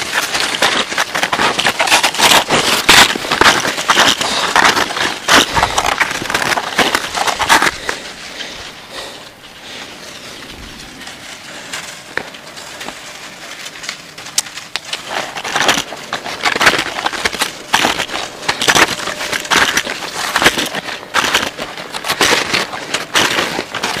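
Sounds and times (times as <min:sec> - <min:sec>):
footsteps crunching in snow: 0:00.0 - 0:24.0.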